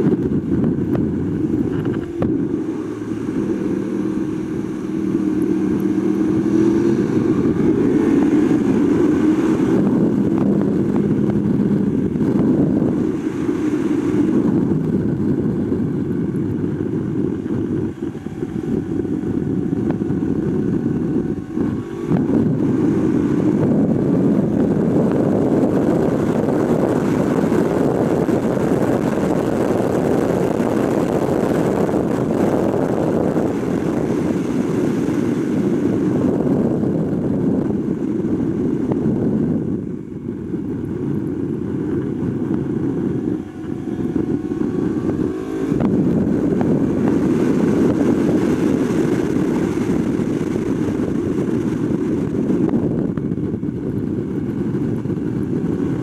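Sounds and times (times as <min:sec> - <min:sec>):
motorcycle engine running hard: 0:00.0 - 0:56.0
wind rushing on microphone: 0:00.0 - 0:56.0.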